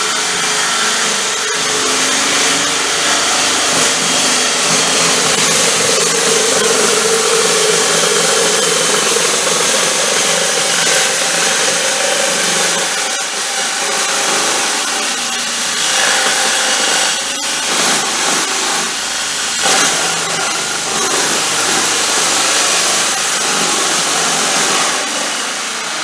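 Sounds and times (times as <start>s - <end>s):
reciprocating saw cutting wood: 0.0s - 26.0s.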